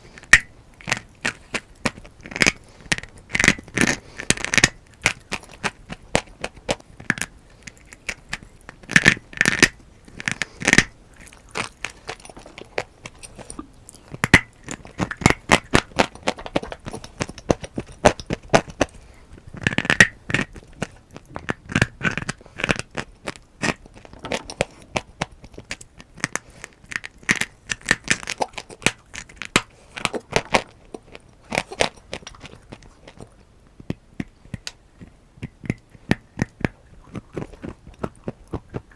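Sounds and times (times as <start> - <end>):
dry clay crunching and cracking: 0.0 - 38.9.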